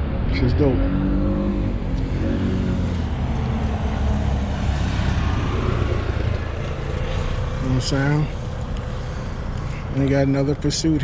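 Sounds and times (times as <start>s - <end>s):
outdoor rumble: 0.7s - 11.0s
vehicle engine running: 1.9s - 11.0s.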